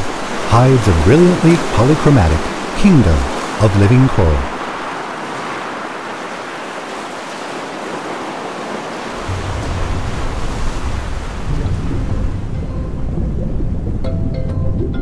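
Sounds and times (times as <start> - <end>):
surf washing over rocky shore: 0.0 - 13.2.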